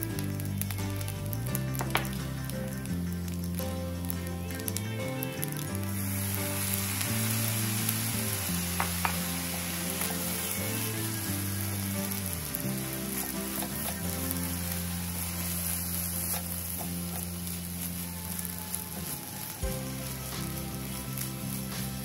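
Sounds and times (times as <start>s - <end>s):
sauce sizzling in hot pan: 0.0s - 22.0s.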